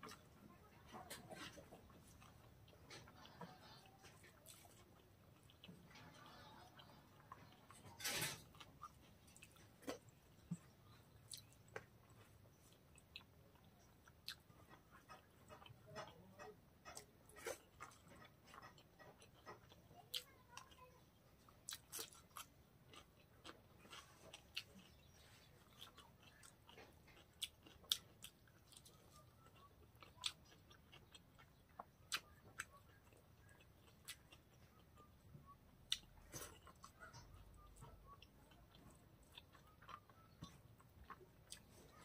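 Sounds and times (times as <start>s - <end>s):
close chewing: 0.0s - 42.0s.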